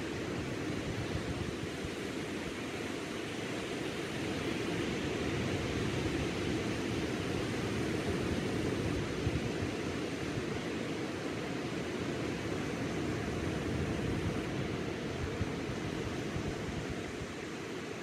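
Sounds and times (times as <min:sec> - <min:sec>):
ocean waves breaking on beach: 0:00.0 - 0:18.0.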